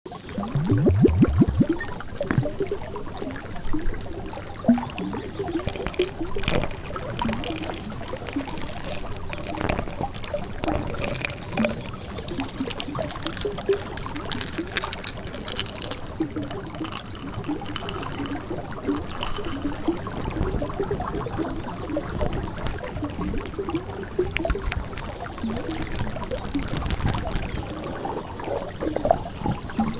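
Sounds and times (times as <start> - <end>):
water trickling and gurgling: 0.1 - 29.9.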